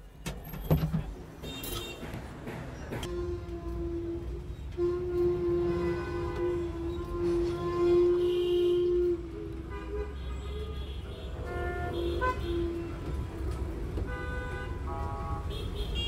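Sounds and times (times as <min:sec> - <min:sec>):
low rumble of traffic: 0:00.0 - 0:16.0
vehicle horns honking: 0:01.4 - 0:02.1, 0:03.0 - 0:16.0.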